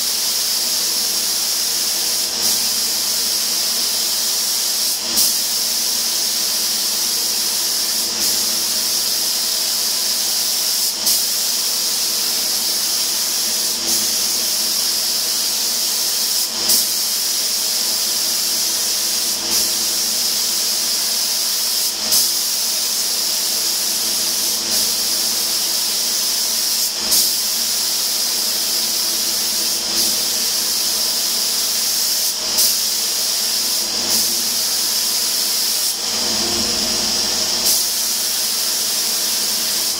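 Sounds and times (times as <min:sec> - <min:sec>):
spray gun hissing: 0:00.0 - 0:39.9.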